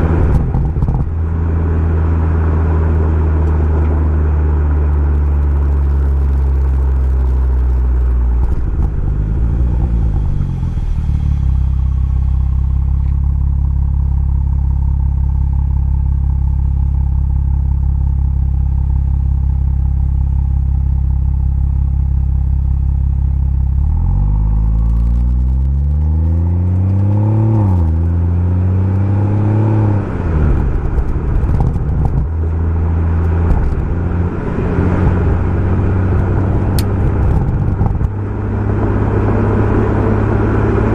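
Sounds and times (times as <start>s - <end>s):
car engine and exhaust revving: 0.0s - 40.9s.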